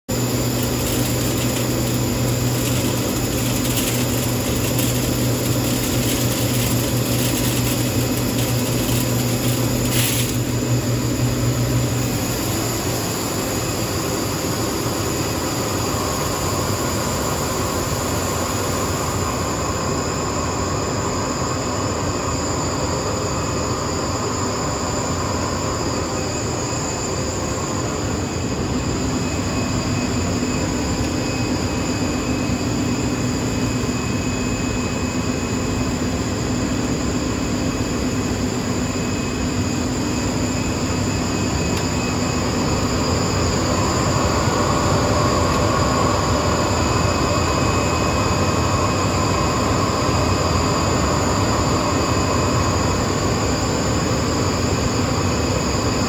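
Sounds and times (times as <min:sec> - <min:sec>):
machine noise: 0:00.1 - 0:56.0.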